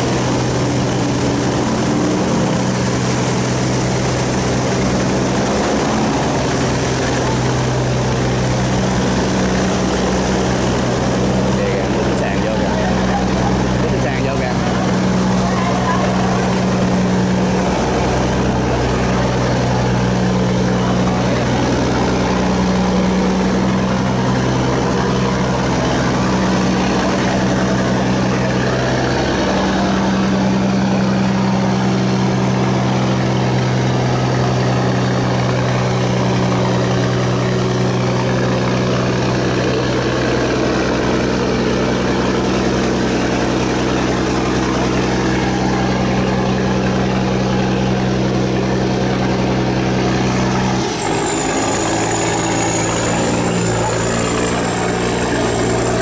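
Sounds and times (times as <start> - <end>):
churning water along hull: 0.0 - 56.0
diesel engine humming: 0.0 - 56.0.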